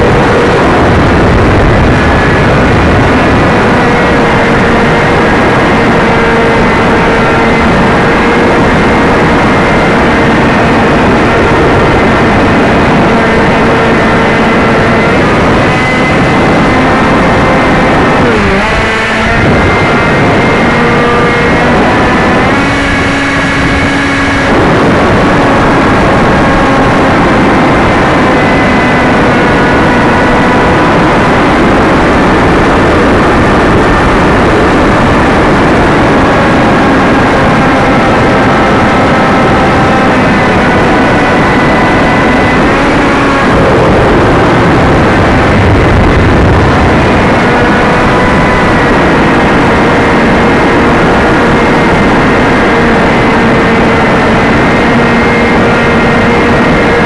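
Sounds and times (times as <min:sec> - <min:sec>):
electric motor and propeller whine: 0:00.0 - 0:57.0
low buffeting: 0:00.0 - 0:57.0
wind rush on microphone: 0:00.0 - 0:57.0.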